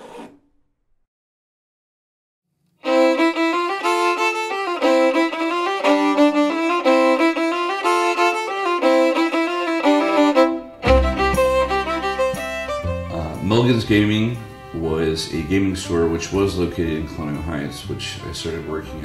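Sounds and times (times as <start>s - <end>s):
fiddle playing a tune: 2.8s - 19.0s.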